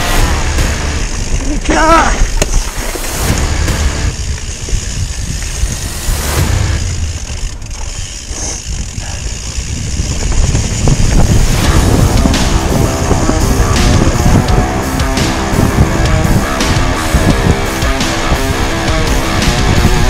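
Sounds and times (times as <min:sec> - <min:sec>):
bike clicks and rattles: 0:00.8 - 0:20.0
wind buffeting microphone: 0:01.0 - 0:20.0.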